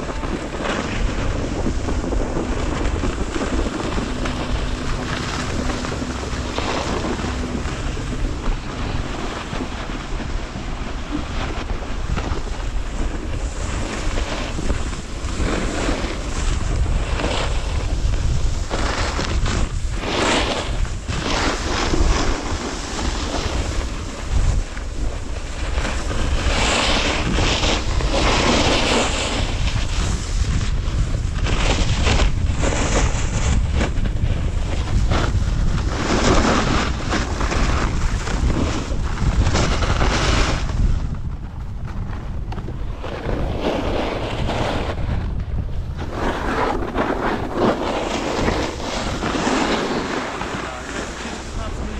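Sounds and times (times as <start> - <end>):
snowboard scraping on snow: 0.0 - 51.9
wind buffeting microphone: 0.0 - 51.9.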